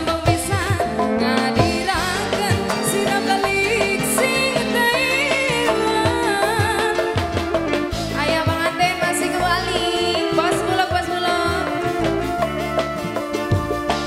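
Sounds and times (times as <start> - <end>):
woman singing: 0.0 - 13.0
drum beat: 0.0 - 14.0
live band music: 0.0 - 14.0.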